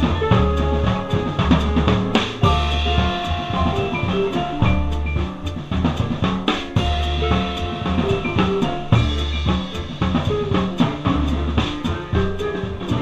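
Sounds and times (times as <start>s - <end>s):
jazz drum kit played hard: 0.0s - 13.0s
swing band bass notes: 0.0s - 13.0s.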